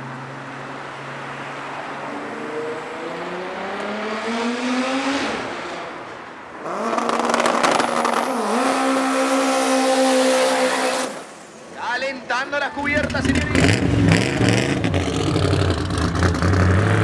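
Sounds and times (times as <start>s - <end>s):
engine at high revs: 0.0s - 11.8s, 12.8s - 17.0s
racing car engine accelerating: 0.5s - 11.8s, 12.8s - 17.0s.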